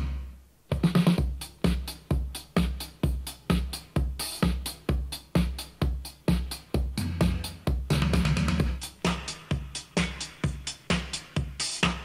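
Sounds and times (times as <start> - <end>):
disco house music through speakers: 0.0 - 12.0.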